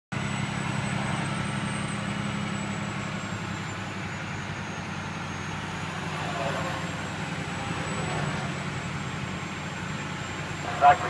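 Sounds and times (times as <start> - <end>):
truck engine drone and road noise: 0.1 - 11.0.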